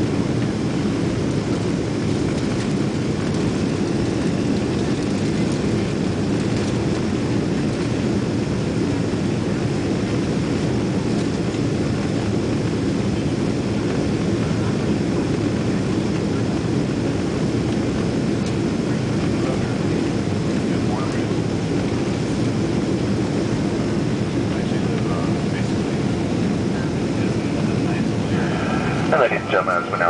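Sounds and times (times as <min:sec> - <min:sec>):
jet engine roar in cabin: 0:00.0 - 0:30.0.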